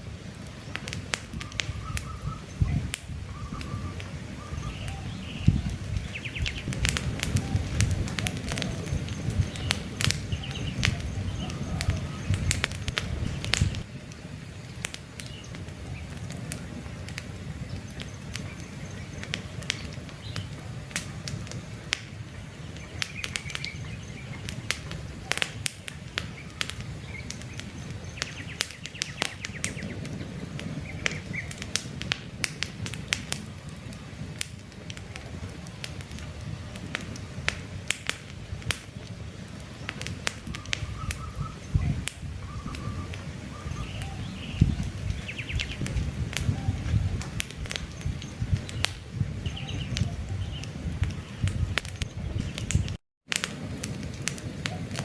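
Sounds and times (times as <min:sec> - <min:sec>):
campfire logs crackling and popping: 0:00.0 - 0:55.0
low rumble of flame: 0:00.0 - 0:55.0
faint birds chirping: 0:01.4 - 0:31.7, 0:38.9 - 0:53.0.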